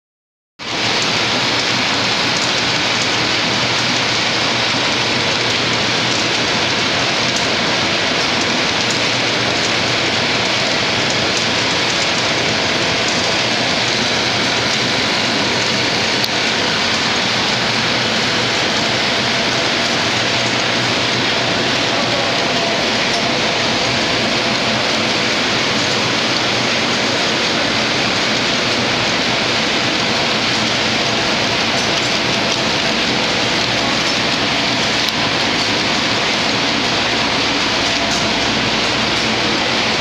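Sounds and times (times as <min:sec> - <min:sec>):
packing machine rattling: 0:00.8 - 0:40.0.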